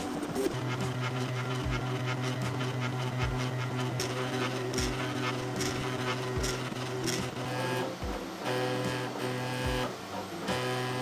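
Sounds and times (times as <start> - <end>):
stepper motors whirring: 0.0 - 11.0.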